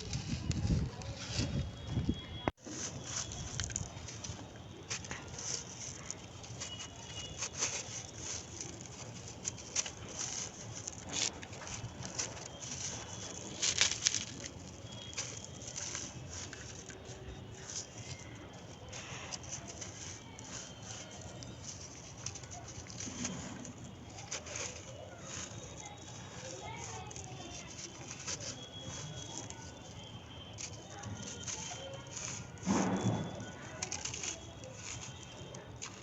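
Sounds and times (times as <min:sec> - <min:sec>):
brittle material crackling and crunching: 0:00.0 - 0:36.0.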